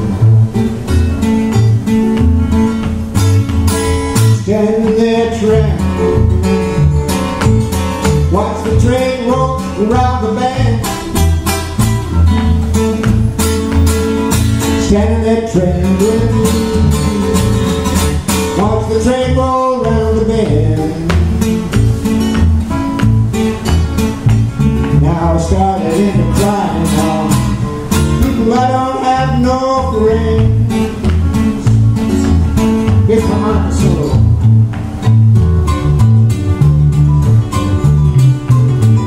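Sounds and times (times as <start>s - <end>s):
acoustic guitars strumming: 0.0s - 39.0s
guitar melody with bending notes: 0.0s - 39.0s.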